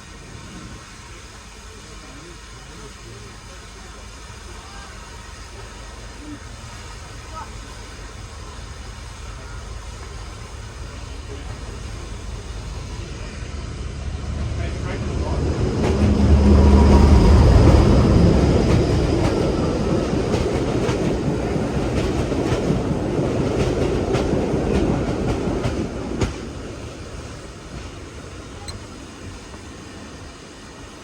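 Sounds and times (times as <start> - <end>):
train passing by: 0.0 - 31.0.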